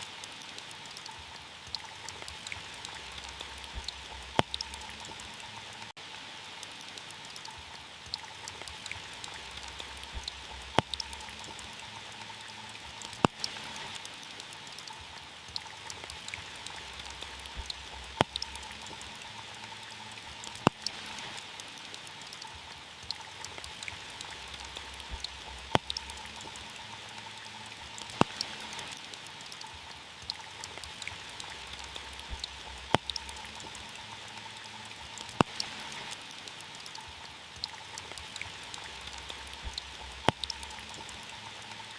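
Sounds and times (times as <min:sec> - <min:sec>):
rain pattering on a car roof: 0:00.0 - 0:41.9.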